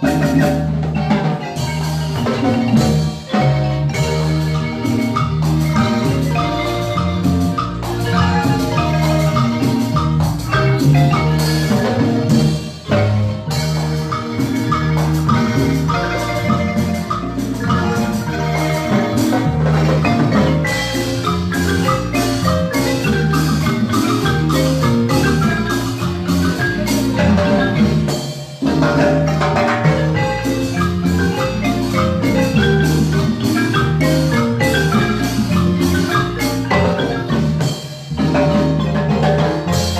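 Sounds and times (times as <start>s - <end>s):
marimba ensemble playing: 0.0s - 39.9s.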